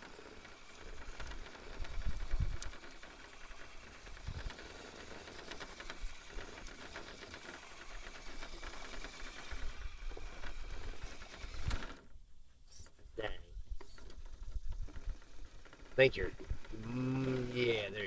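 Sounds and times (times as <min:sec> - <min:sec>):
ticking and rattling over rocks: 0:00.0 - 0:12.2, 0:13.6 - 0:18.0
small electric motor and gears: 0:00.0 - 0:12.8, 0:13.6 - 0:18.0.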